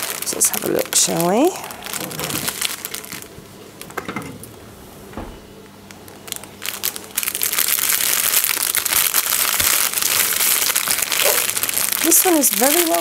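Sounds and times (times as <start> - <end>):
plastic packaging crinkling: 0.0 - 4.2, 5.8 - 13.0.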